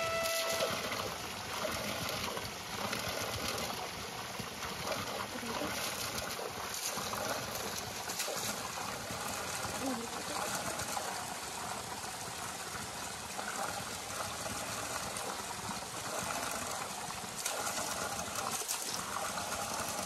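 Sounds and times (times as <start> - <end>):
water pouring onto stone: 0.0 - 20.0.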